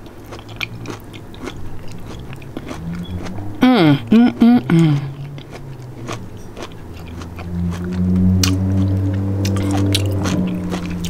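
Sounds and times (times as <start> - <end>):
person chewing and biting food: 0.0 - 11.0
low humming tone: 1.6 - 11.0.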